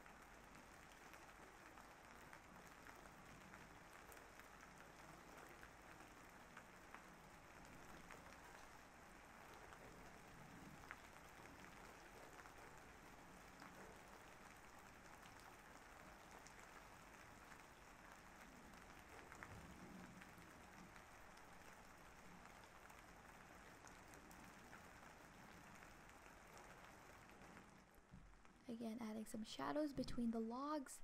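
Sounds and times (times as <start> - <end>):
rain drop ticks: 0.0 - 28.7
faint steady rain: 0.0 - 31.0.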